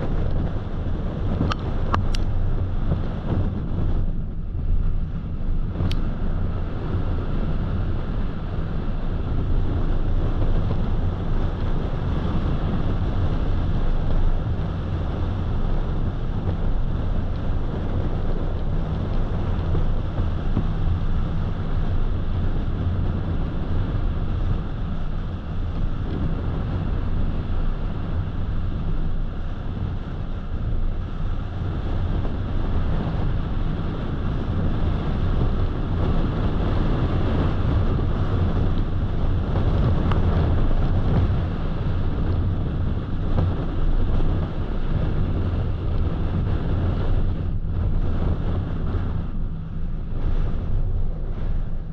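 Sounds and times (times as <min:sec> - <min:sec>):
car road and engine rumble: 0:00.0 - 0:51.9.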